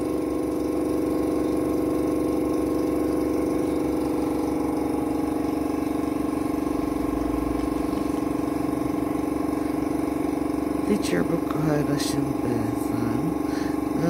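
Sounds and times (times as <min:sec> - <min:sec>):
small electric motor humming: 0:00.0 - 0:14.0.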